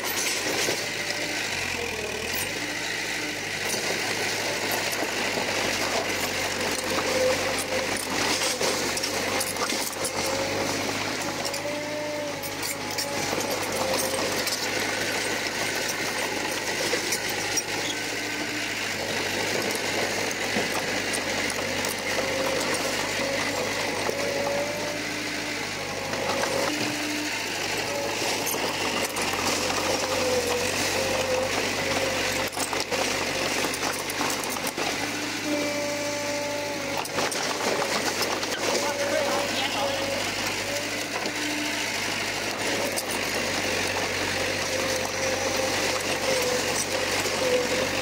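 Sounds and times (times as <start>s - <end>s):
bulldozer diesel engine: 0.0s - 48.0s.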